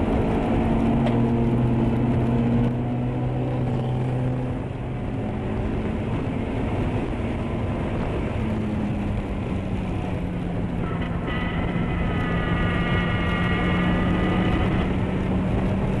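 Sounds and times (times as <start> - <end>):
car engine at speed: 0.0 - 16.0
high-pitched whine: 0.0 - 16.0
road and wind noise: 0.0 - 16.0.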